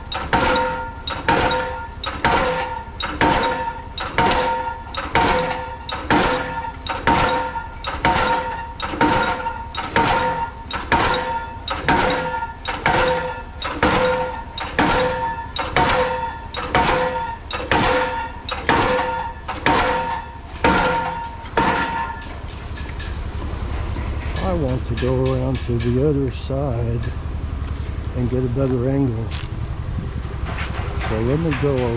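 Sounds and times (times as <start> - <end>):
pile driver striking metal: 0.0 - 27.2, 30.4 - 31.9.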